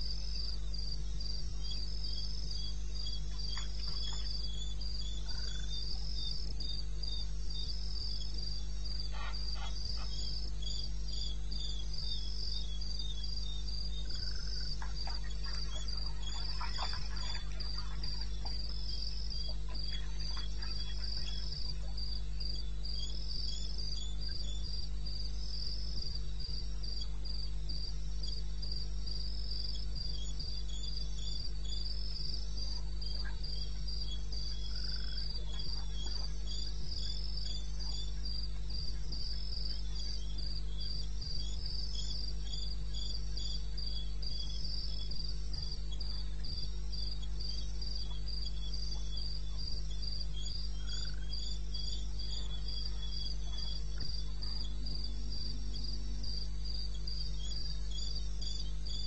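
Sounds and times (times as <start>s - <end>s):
crickets chirping: 0.0s - 59.0s
steady low hum: 0.0s - 59.0s.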